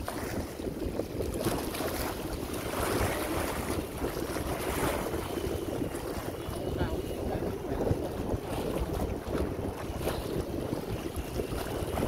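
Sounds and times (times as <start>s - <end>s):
waves lapping over rocks: 0.0s - 12.0s
wind buffeting microphone: 0.0s - 12.0s.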